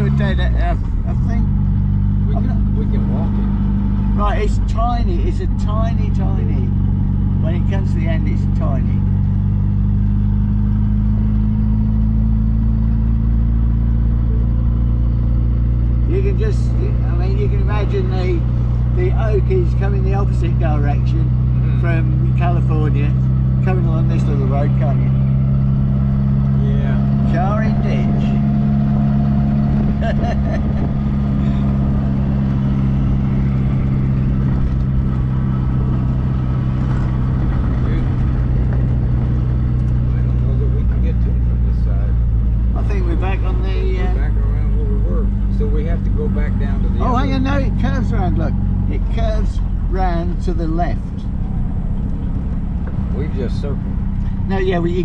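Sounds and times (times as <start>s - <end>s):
car engine running steadily: 0.0s - 55.0s
road and wind noise: 0.0s - 55.0s.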